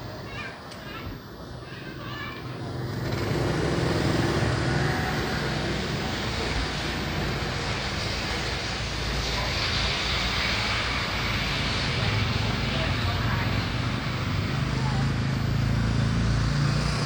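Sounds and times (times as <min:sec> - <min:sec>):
motorbike engine drone: 0:00.0 - 0:17.0
rushing road noise hiss: 0:03.0 - 0:17.0.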